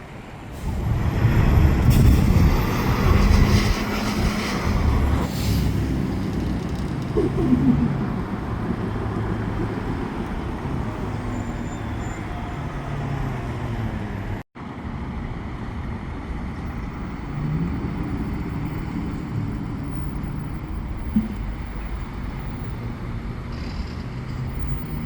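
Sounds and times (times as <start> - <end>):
heavy vehicle engines running: 0.0 - 25.0
road traffic noise: 0.0 - 25.0.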